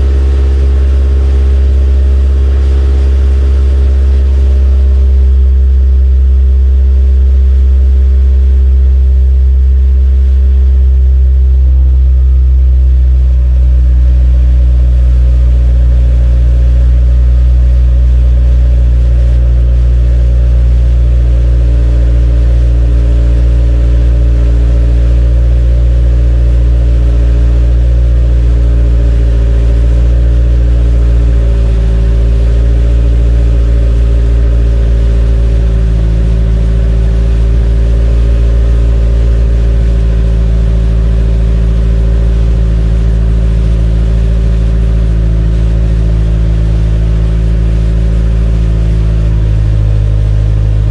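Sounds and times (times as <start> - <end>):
car exhaust idling: 0.0 - 50.9.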